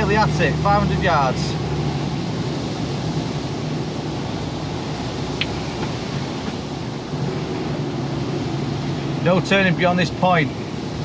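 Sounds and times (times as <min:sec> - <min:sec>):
lorry engine running: 0:00.0 - 0:11.0
tyre noise on wet road: 0:00.0 - 0:11.0.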